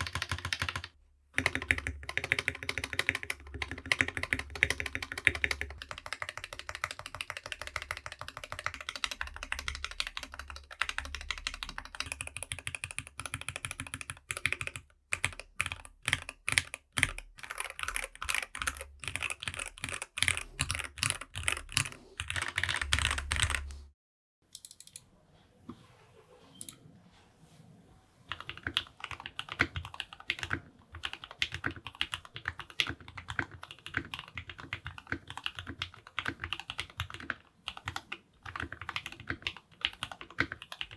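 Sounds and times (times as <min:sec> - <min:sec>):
fast typing on mechanical keyboard: 0:00.0 - 0:23.7, 0:28.3 - 0:40.9.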